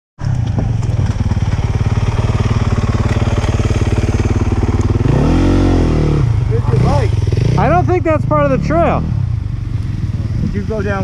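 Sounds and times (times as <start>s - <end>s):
dirt bike engine idling and revving: 0.2s - 11.0s.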